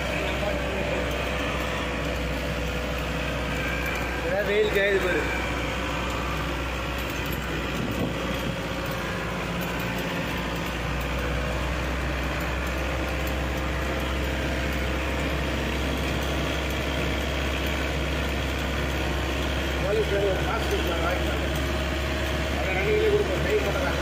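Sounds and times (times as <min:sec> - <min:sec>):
bus engine droning: 0:00.0 - 0:24.0
road noise: 0:00.0 - 0:24.0.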